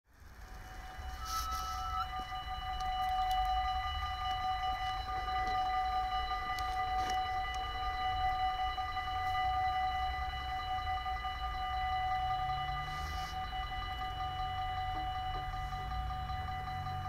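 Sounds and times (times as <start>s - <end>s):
level crossing warning bells: 0.3s - 17.0s.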